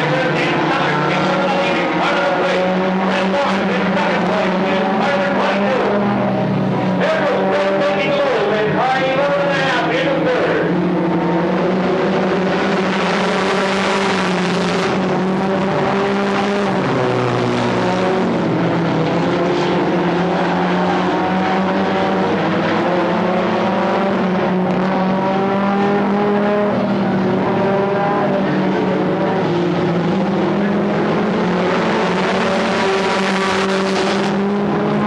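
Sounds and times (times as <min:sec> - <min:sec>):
stock car engines running: 0:00.0 - 0:35.0.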